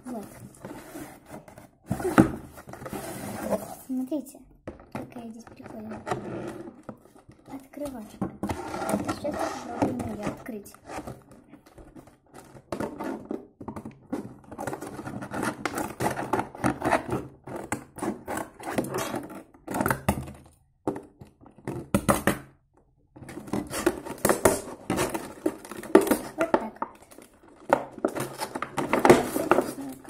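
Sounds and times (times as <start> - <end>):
plastic crackling and rustling: 0.0 - 21.9, 23.1 - 30.0.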